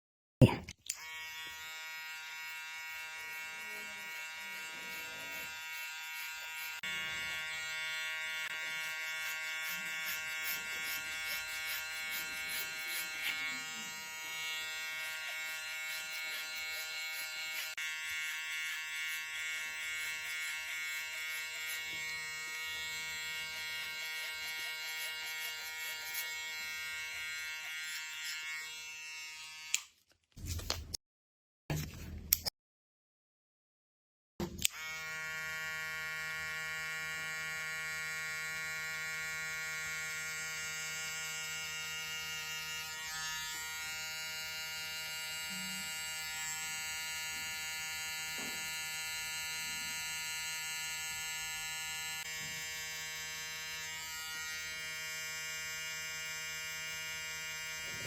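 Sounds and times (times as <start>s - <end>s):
electric hair clipper buzzing: 0.8s - 30.0s, 34.5s - 58.0s.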